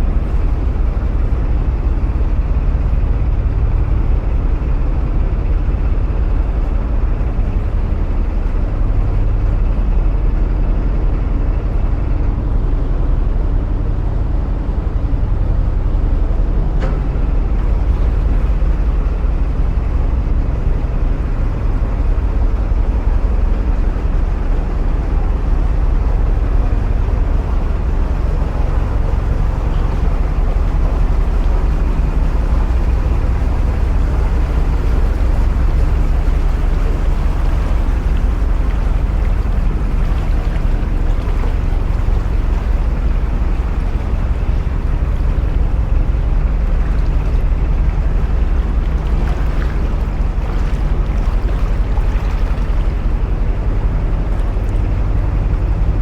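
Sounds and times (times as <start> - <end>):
diesel boat engine drone: 0.0 - 56.0
water churning: 0.0 - 56.0.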